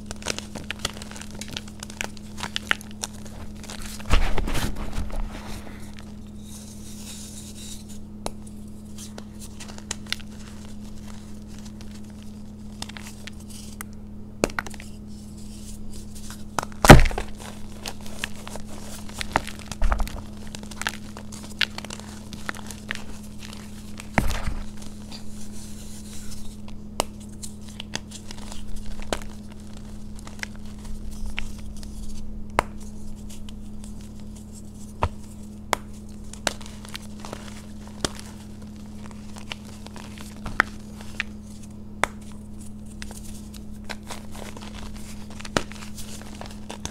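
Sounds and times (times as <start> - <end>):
hands crumbling chalk: 0.0 - 46.9
steady low hum: 0.0 - 46.9.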